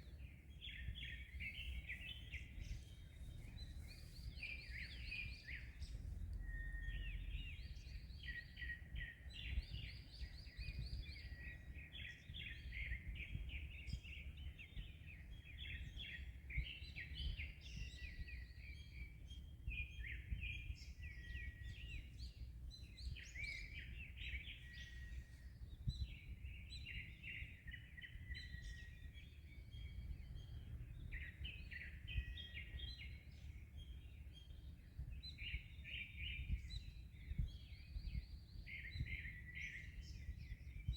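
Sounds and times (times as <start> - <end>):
low rumble of wind: 0.0 - 40.9
songbirds singing and chirping: 0.0 - 40.9.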